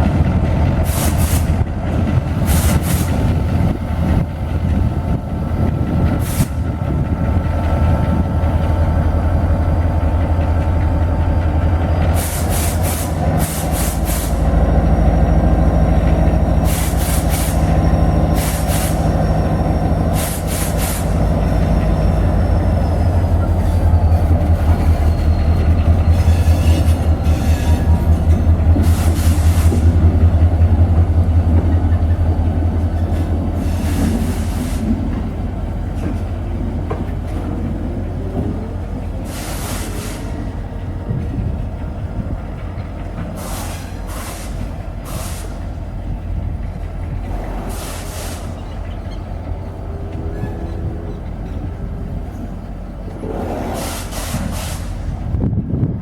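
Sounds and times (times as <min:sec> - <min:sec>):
diesel locomotive engine drone: 0:00.0 - 0:56.0
freight train rumbling: 0:00.0 - 0:56.0
wheels clacking over rail joints: 0:00.0 - 0:56.0.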